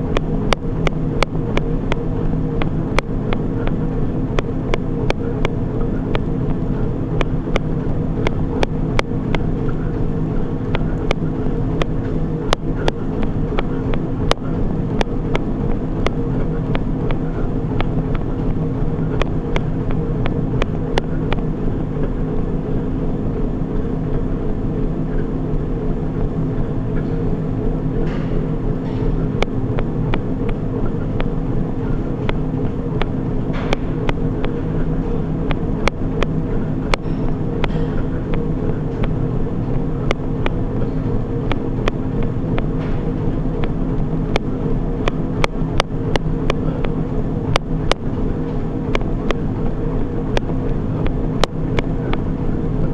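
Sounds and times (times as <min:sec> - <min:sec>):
treadmill motor and belt hum: 0:00.0 - 0:52.9.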